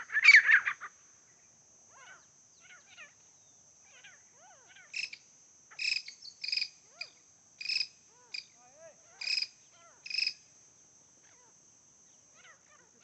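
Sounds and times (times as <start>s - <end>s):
francolins calling: 0.0s - 1.0s, 1.9s - 13.0s.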